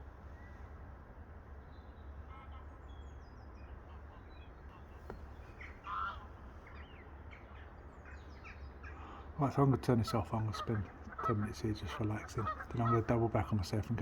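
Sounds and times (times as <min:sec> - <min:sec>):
birds calling: 0:01.5 - 0:14.0.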